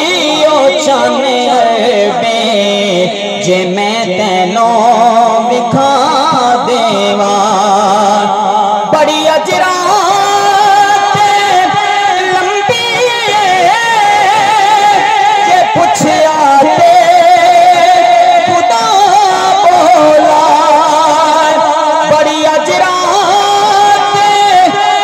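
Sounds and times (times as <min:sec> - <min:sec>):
man singing through loudspeaker: 0:00.0 - 0:25.0.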